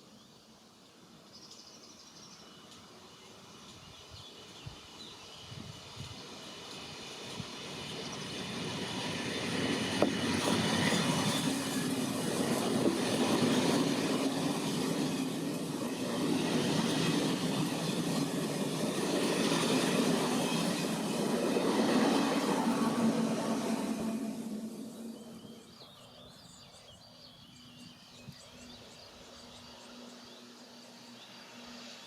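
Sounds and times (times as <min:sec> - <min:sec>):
train running on rails: 0:00.0 - 0:32.0.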